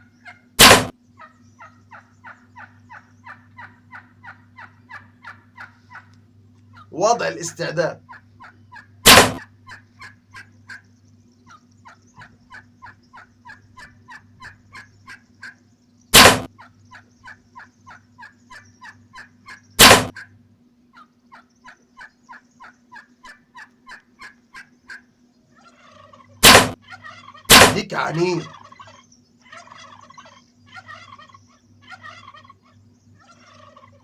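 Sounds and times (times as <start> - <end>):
turkey gobbling: 0.0 - 34.0
turkey yelps: 0.0 - 34.0.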